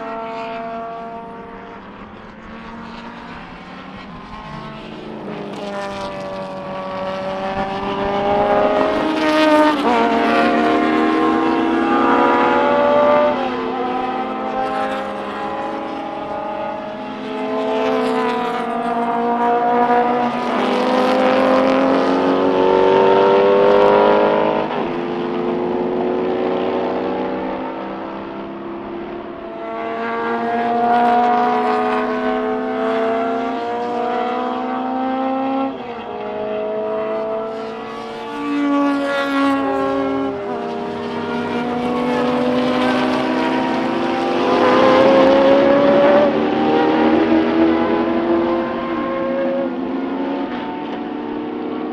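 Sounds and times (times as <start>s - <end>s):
racing car engines at full throttle: 0.0s - 51.9s.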